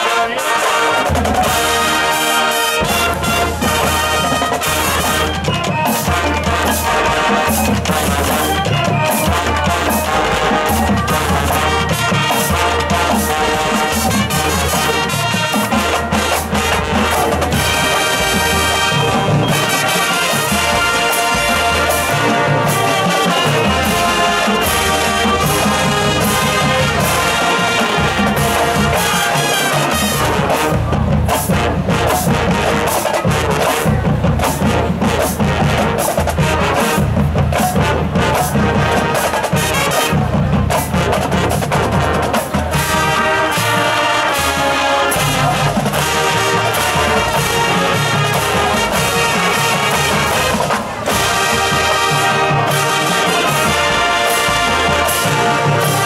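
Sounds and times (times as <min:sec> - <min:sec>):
marching band playing: 0:00.0 - 0:56.0.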